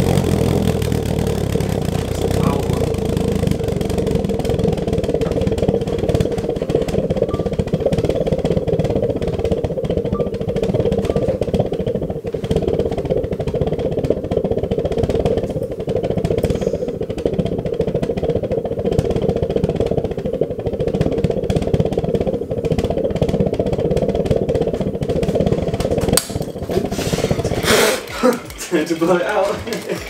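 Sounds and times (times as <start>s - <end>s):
pulse jet pulsing buzz: 0.0s - 28.6s
hissing open flame: 0.0s - 29.0s.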